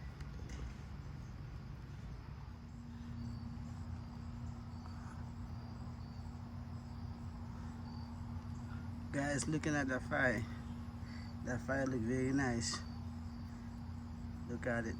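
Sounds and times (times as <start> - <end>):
insect chirps: 0.0 - 14.9
steady low hum: 0.0 - 14.9.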